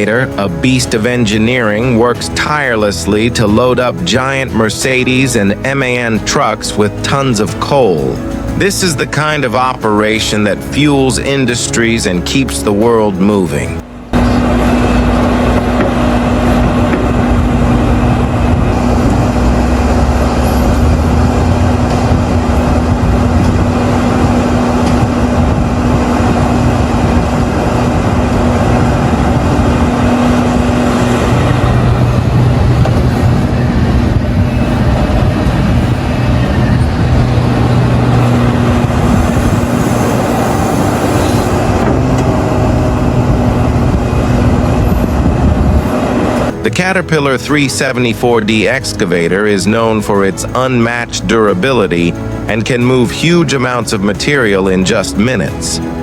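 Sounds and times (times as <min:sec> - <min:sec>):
diesel engines under load: 0:00.0 - 0:56.0.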